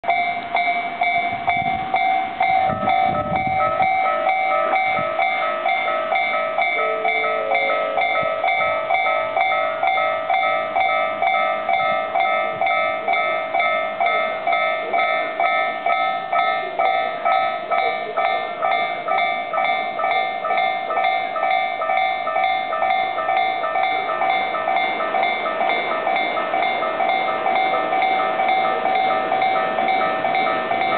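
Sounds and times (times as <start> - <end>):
level-crossing warning bell: 0.0 - 30.9.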